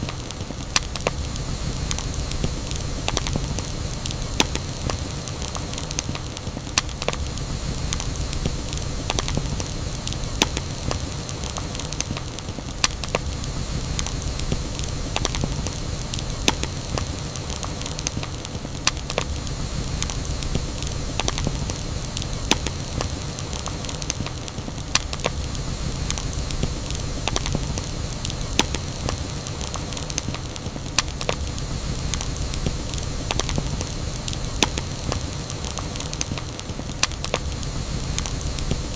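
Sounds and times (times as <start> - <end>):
burning wood crackling and popping: 0.0 - 38.9
flames rumbling and hissing: 0.0 - 38.9.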